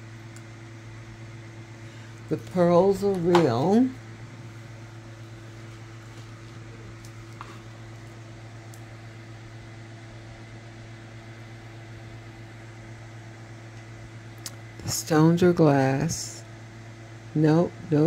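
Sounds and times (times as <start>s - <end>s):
appliance low hum: 0.0s - 18.0s.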